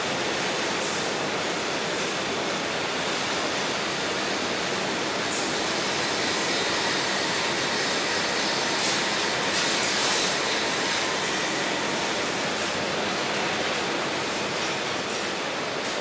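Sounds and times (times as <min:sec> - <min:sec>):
processing machinery roaring: 0:00.0 - 0:16.0.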